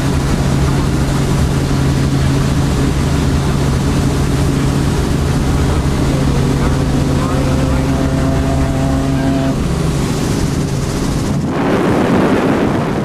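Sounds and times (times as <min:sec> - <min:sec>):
helicopter engine and rotor drone: 0:00.0 - 0:07.9, 0:09.5 - 0:13.0.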